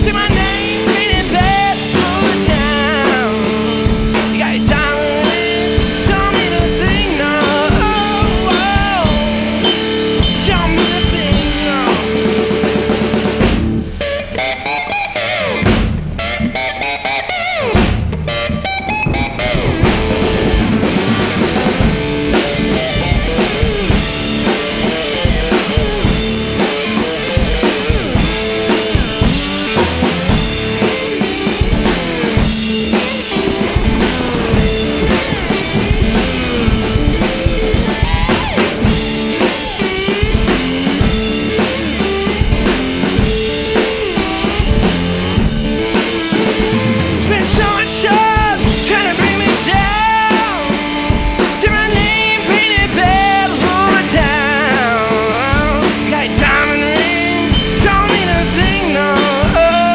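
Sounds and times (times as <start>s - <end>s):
drum kit playing: 0.0s - 59.9s
electric guitar playing: 0.0s - 59.9s.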